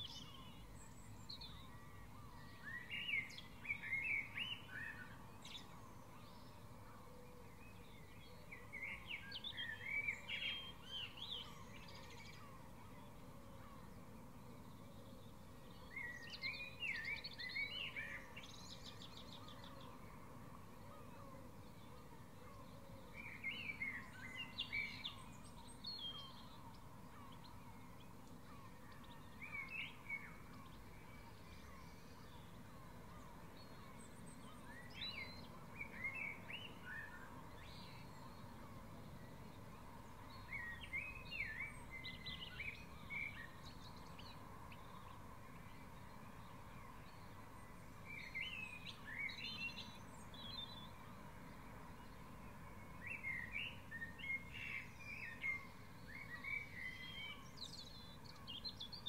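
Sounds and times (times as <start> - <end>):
low background noise: 0.0 - 59.0.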